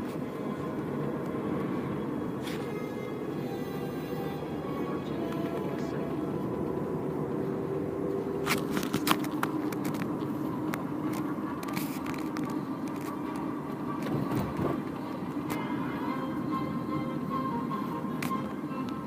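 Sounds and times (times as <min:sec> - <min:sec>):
road and engine noise in car: 0:00.0 - 0:19.0.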